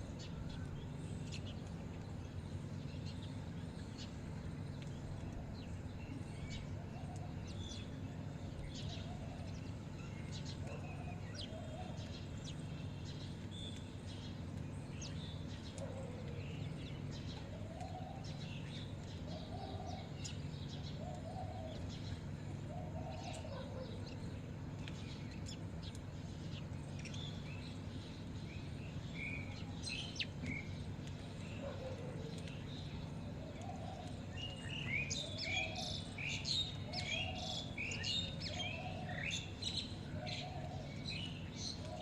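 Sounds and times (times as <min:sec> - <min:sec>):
birds chirping: 0:00.0 - 0:42.0
steady low hum: 0:00.0 - 0:42.0.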